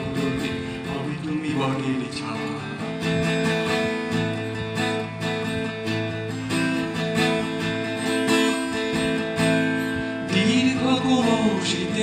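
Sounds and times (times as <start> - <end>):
acoustic guitar strummed: 0.0 - 12.0.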